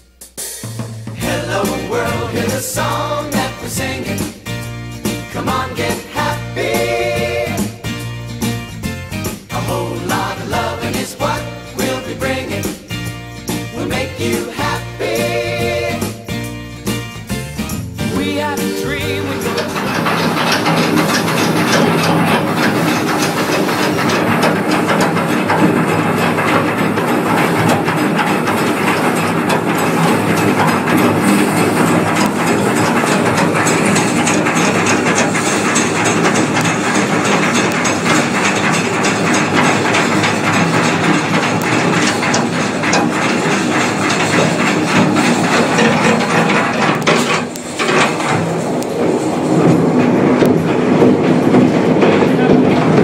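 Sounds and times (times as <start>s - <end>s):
chain lift clanking and rattling: 1.2s - 53.0s.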